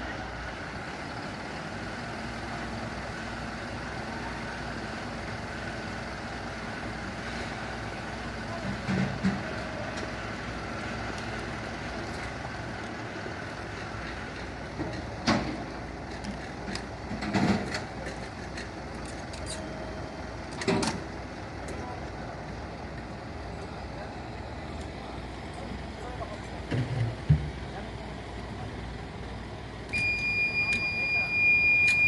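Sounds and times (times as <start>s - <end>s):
heavy vehicle engine idling: 0.0s - 32.0s.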